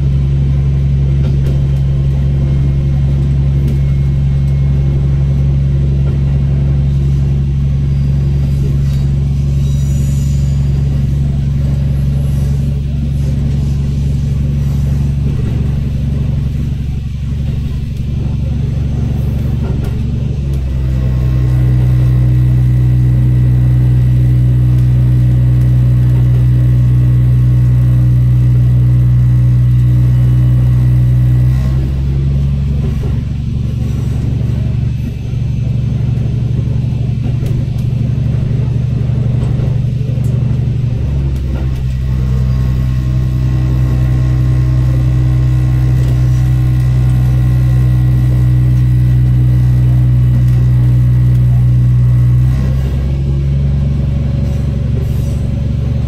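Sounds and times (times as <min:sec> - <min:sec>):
railcar diesel engine droning: 0:00.0 - 0:56.0.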